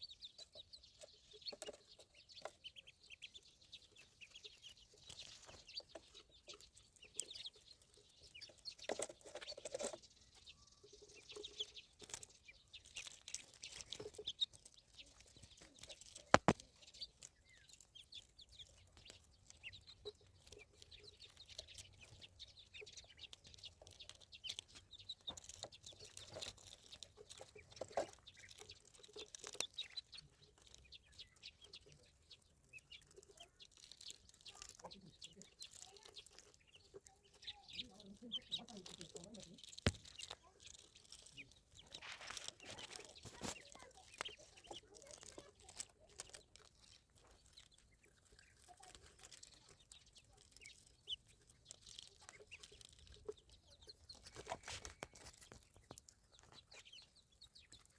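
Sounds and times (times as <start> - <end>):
ducklings peeping: 0.0 - 57.9
small ticks: 0.0 - 57.9.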